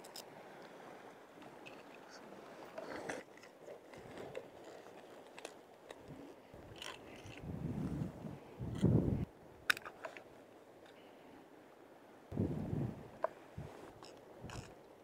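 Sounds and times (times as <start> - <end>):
sea and wind hiss: 0.0 - 15.0.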